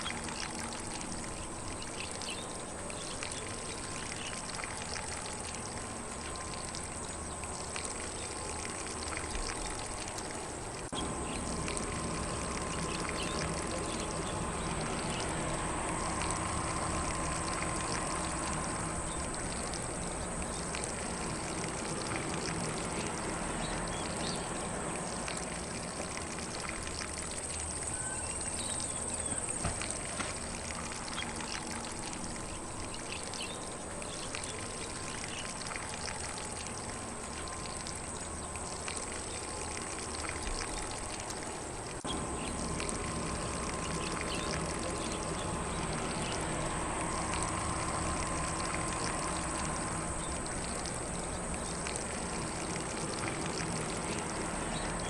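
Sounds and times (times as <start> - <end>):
lawn sprinkler spraying water: 0.0 - 55.0.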